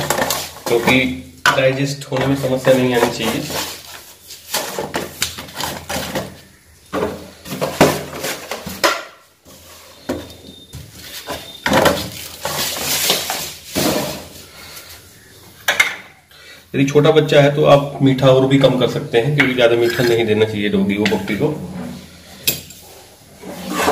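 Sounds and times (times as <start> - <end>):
plastic containers knocking and scraping: 0.0 - 14.9, 17.1 - 22.3, 23.2 - 23.9.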